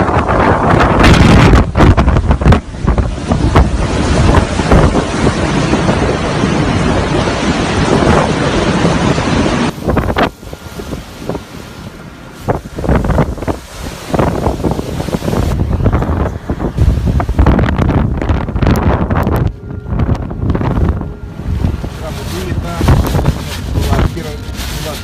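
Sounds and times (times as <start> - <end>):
storm wind buffeting microphone: 0.0 - 25.0.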